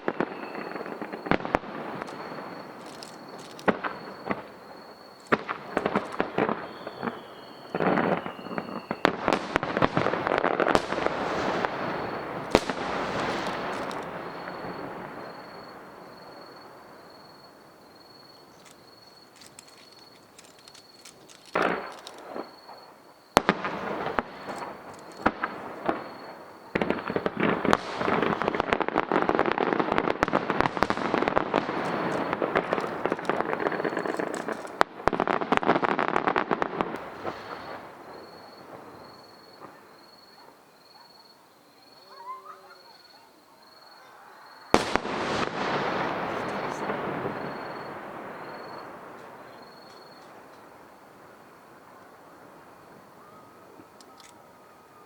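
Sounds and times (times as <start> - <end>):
firework crackling: 0.0 - 39.8, 44.7 - 54.0
firework bangs: 0.0 - 40.4, 44.6 - 54.0.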